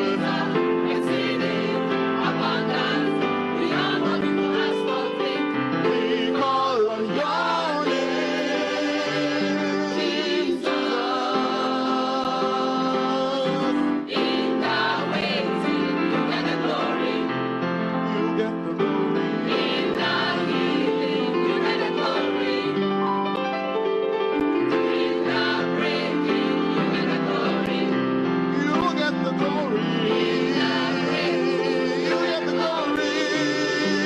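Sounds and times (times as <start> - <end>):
gospel choir singing: 0.0 - 23.5, 24.4 - 34.0.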